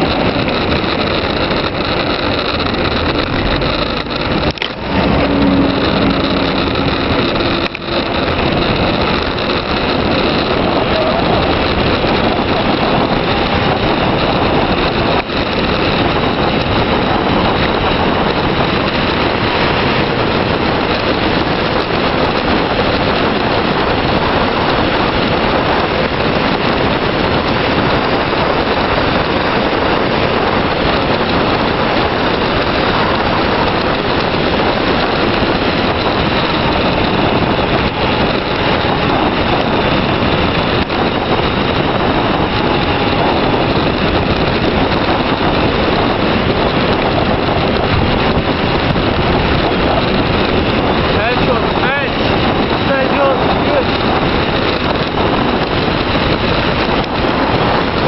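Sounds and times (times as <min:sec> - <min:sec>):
tyre noise on asphalt: 0:00.0 - 0:58.0
wind rushing over microphone: 0:00.0 - 0:58.0.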